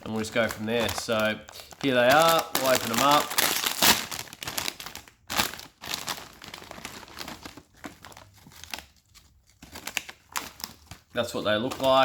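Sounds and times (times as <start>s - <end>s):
plastic chip packet crinkling: 0.0s - 12.0s.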